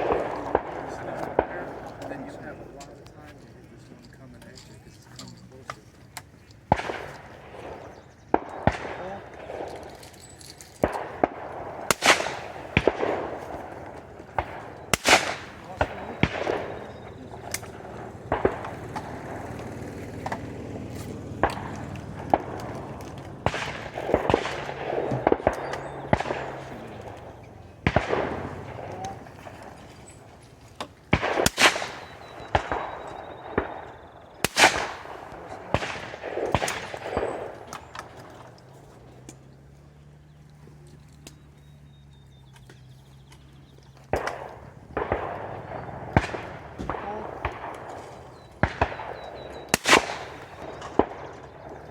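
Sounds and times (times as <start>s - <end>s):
shotgun shots with echo: 0.0s - 2.6s, 6.6s - 39.7s, 44.0s - 51.9s
distant shotgun shots: 0.0s - 3.1s, 6.2s - 51.9s
sharp clicks: 2.8s - 51.9s.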